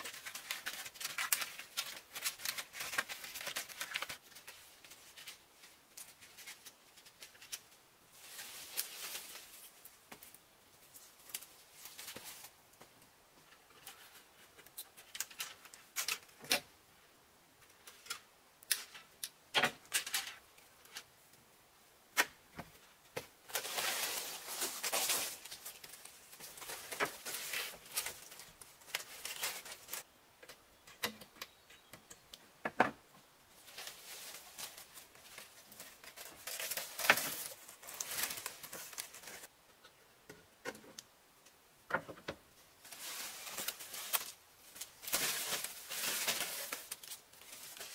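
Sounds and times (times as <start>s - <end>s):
bamboo strips rustling: 0.0s - 16.7s, 17.6s - 21.3s, 22.1s - 31.4s, 32.9s - 39.9s, 41.9s - 47.9s.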